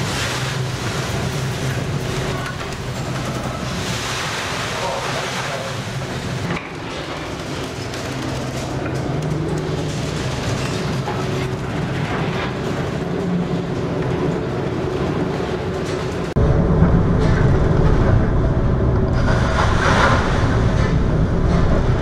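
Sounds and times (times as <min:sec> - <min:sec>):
breaking sea waves: 0:00.0 - 0:22.0
deep rumble: 0:00.0 - 0:22.0
low engine drone: 0:00.0 - 0:22.0
wind: 0:00.0 - 0:22.0.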